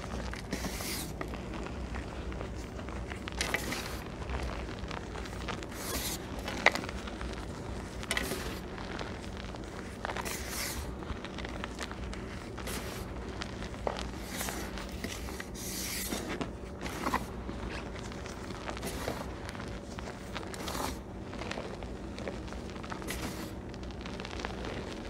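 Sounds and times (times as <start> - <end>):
hands kneading chalk powder: 0.0 - 25.0.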